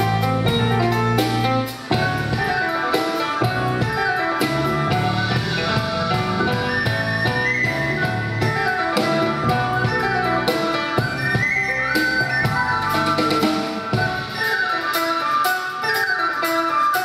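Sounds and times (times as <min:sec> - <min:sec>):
piano notes: 0:00.0 - 0:14.6
drums and cymbals: 0:00.0 - 0:17.0
flute line: 0:00.0 - 0:17.0.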